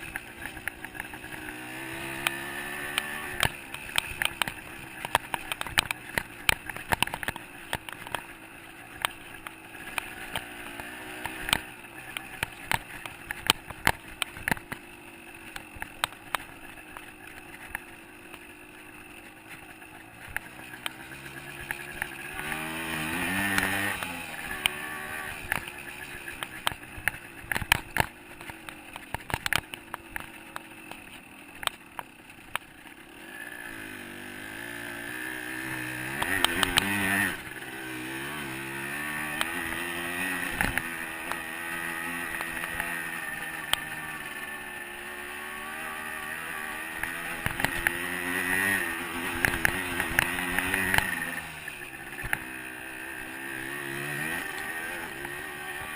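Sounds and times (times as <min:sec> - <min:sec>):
sharp clicks and knocks: 0:00.0 - 0:33.0, 0:35.6 - 0:44.5, 0:45.8 - 0:52.6
dirt bike engine revving: 0:00.0 - 0:55.9.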